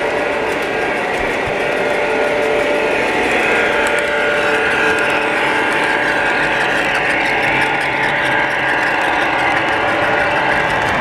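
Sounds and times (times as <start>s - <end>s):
model train motors whirring: 0.0s - 11.0s
wheels clicking on rails: 0.0s - 11.0s.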